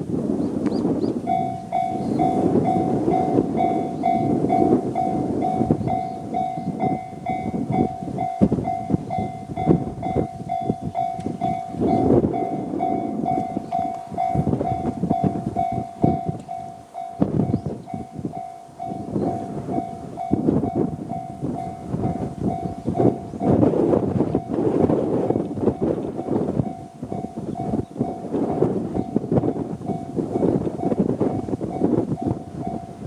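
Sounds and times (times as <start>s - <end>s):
level crossing warning bell: 1.2s - 33.0s.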